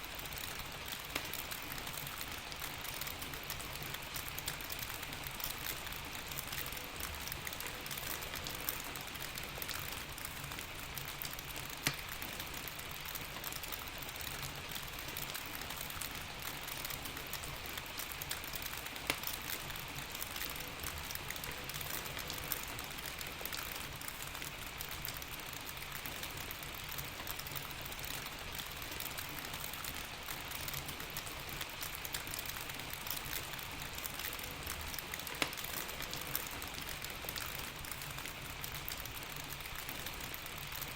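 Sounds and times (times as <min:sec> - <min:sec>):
log fire crackling and popping: 0:00.0 - 0:40.9
steady rain hissing: 0:00.0 - 0:40.9.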